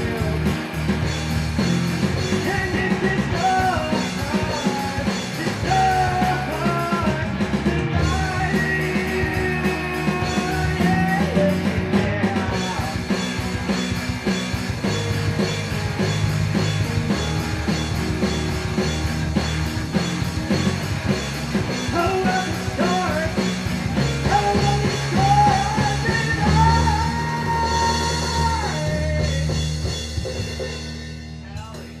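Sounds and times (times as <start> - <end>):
lead line with bending notes: 0.0 - 31.4
live rock band playing: 0.0 - 32.0.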